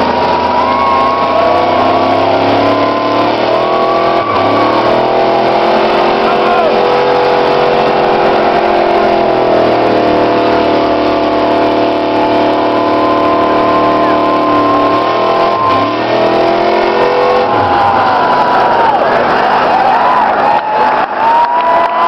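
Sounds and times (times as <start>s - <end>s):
car engines revving high: 0.0s - 22.0s.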